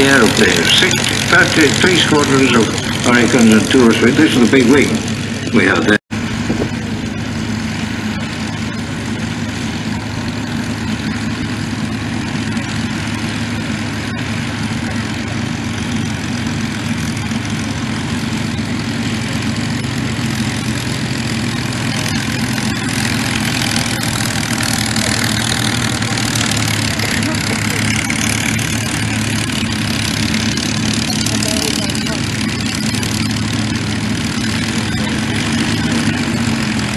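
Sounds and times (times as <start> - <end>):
piston aircraft engines taxiing: 0.0 - 36.9.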